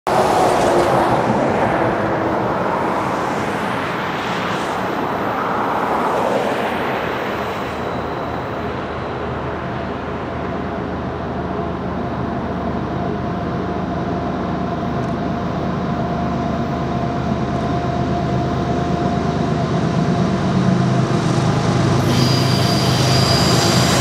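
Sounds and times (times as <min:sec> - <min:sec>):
freight train rumbling by: 0:00.1 - 0:24.0
locomotive engine drone: 0:00.1 - 0:24.0.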